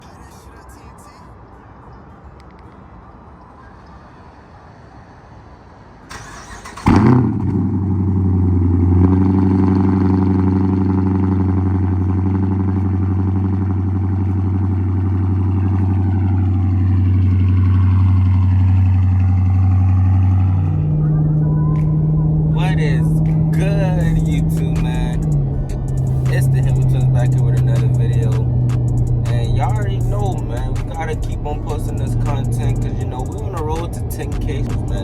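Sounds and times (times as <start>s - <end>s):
car engine revving and idling: 6.1s - 35.0s.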